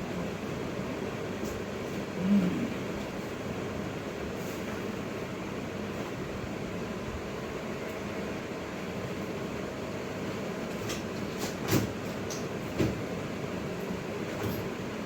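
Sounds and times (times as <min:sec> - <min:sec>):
mechanical room hum: 0:00.0 - 0:15.0.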